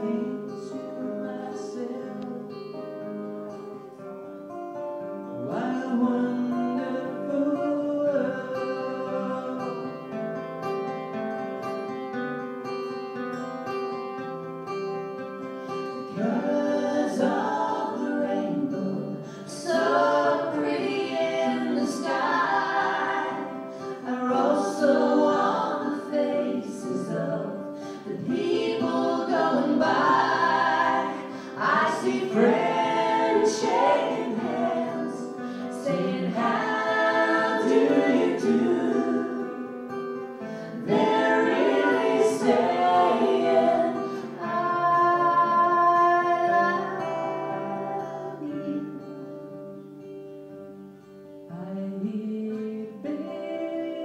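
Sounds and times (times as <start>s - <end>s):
voices singing in harmony: 0.0s - 2.6s, 5.4s - 10.1s, 15.9s - 49.8s, 51.5s - 54.0s
acoustic guitars playing: 0.0s - 54.0s.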